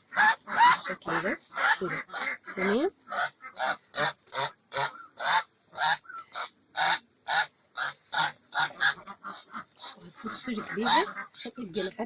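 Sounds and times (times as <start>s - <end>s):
duck quacking: 0.0s - 11.9s.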